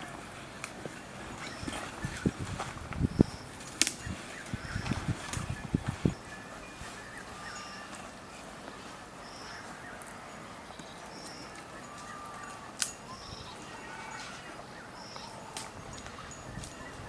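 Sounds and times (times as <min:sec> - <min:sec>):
birds whistling: 0:01.4 - 0:02.4, 0:03.0 - 0:17.0.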